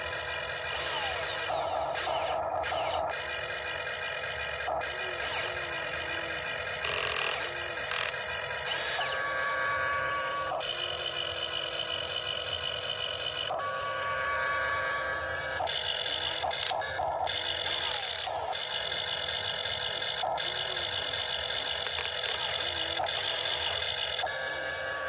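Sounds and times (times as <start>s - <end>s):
electric gear motors whining: 0.0s - 25.0s.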